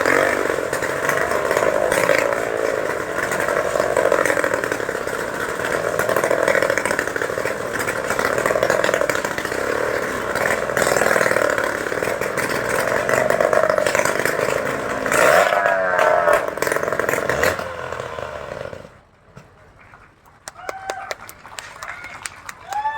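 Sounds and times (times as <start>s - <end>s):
motorcycle engines revving: 0.0s - 19.1s.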